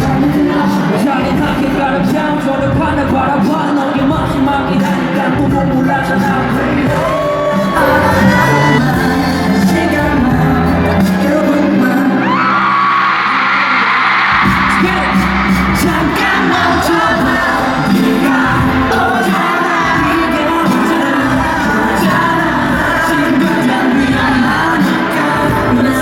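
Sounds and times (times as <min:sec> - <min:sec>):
man singing over heavy beat: 0:00.0 - 0:12.5, 0:14.4 - 0:26.0.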